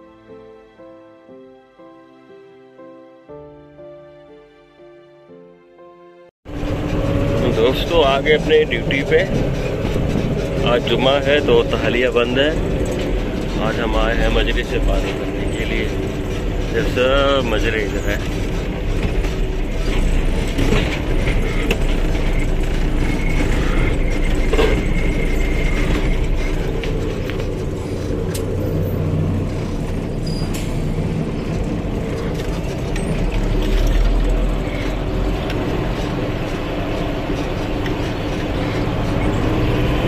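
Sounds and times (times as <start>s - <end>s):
cab rattling and clicking: 6.5s - 40.0s
truck engine running: 6.5s - 40.0s.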